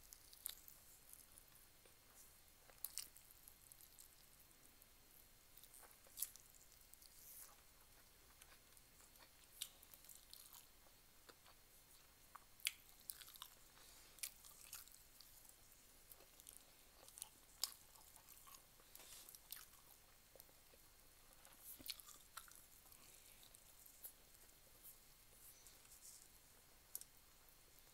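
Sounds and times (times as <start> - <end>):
person chewing and mouth sounds: 0.0 - 27.2.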